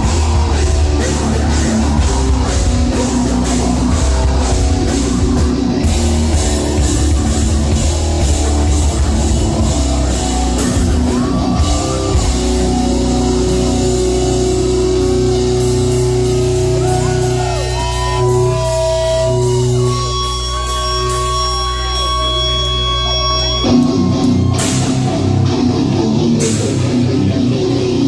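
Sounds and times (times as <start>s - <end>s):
distorted electric guitar: 0.0s - 28.0s
drums: 0.0s - 28.0s.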